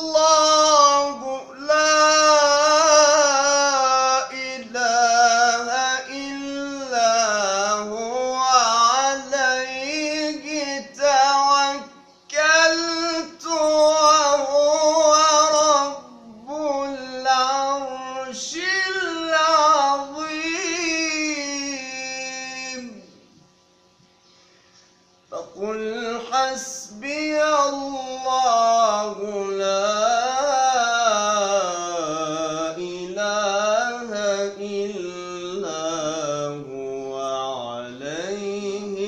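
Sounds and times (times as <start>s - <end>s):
man chanting melodically: 0.0s - 23.3s, 25.3s - 39.0s.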